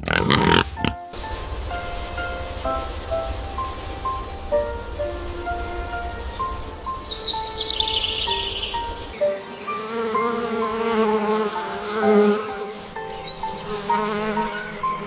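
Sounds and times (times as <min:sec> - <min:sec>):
bee buzzing: 0:00.0 - 0:15.0
soft background music: 0:00.4 - 0:15.0.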